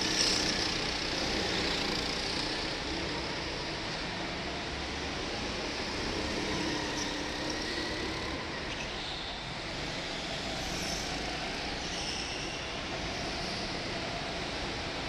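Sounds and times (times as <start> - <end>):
go-kart engines revving: 0.0 - 15.0.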